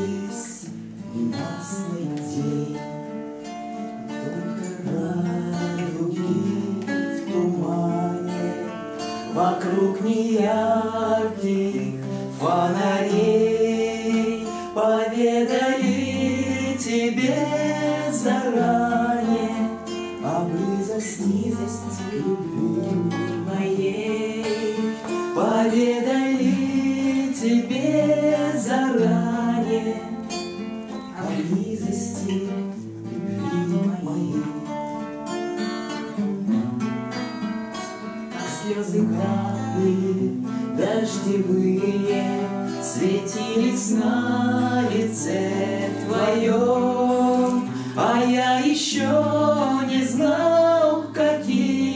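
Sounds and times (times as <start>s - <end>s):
man and woman singing: 0.0s - 35.0s, 38.3s - 51.9s
acoustic guitars strumming: 0.0s - 51.9s.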